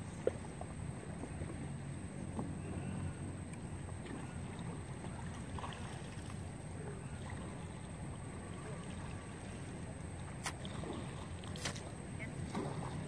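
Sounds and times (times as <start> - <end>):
river water rumbling: 0.0 - 13.0.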